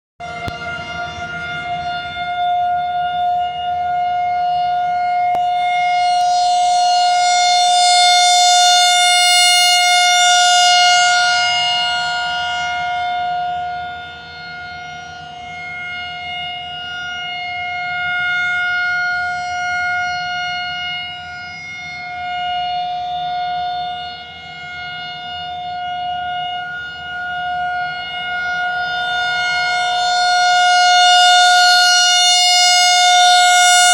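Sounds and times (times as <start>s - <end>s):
warning siren shrill steady tone: 0.2s - 33.9s.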